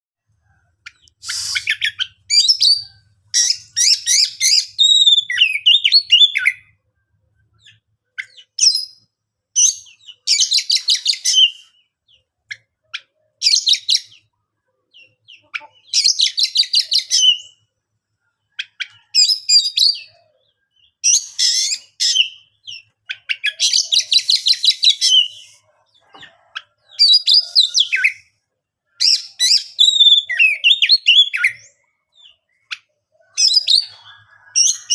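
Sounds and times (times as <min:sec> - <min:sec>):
bird singing whistles and trills: 0:00.8 - 0:06.8, 0:07.5 - 0:14.3, 0:14.9 - 0:17.6, 0:18.6 - 0:25.6, 0:26.9 - 0:28.3, 0:28.9 - 0:34.9.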